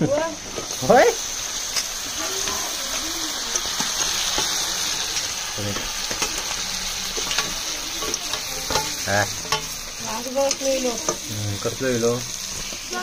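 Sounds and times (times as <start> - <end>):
crabs sizzling in hot oil: 0.0 - 13.0.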